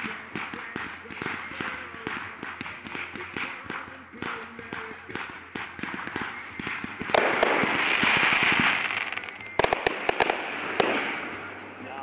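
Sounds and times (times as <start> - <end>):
fireworks popping: 0.0 - 11.5
fireworks sharp bangs: 0.0 - 11.8
fireworks crackling hiss: 0.0 - 11.9.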